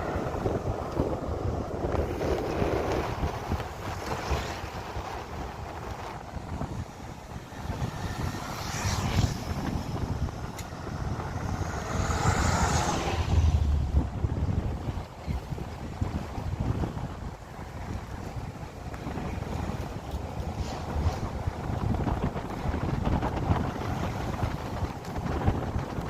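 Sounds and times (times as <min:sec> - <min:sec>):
low road rumble: 0:00.0 - 0:26.0
wind buffeting microphone: 0:00.0 - 0:26.0.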